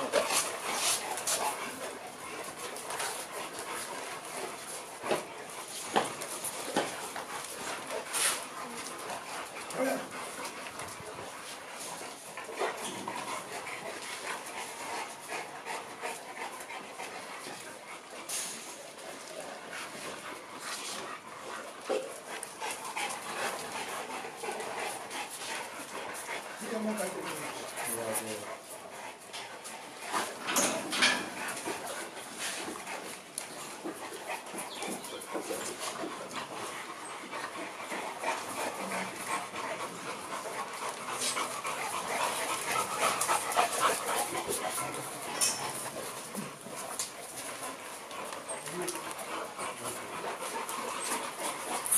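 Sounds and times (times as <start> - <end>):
dog noises: 0.0 - 51.9.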